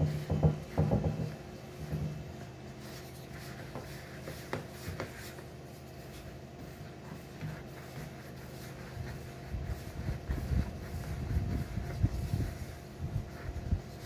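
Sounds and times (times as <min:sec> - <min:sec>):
hands squishing dough: 0:00.0 - 0:14.0.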